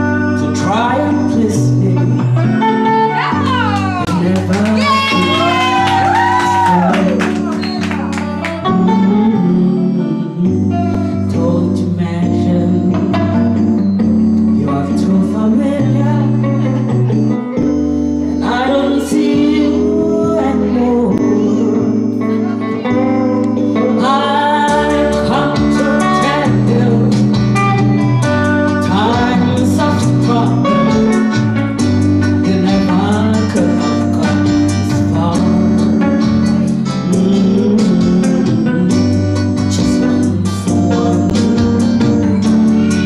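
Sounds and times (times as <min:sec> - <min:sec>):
amplified electric guitar: 0:00.0 - 0:43.0
woman singing into microphone: 0:00.4 - 0:31.5, 0:32.4 - 0:43.0.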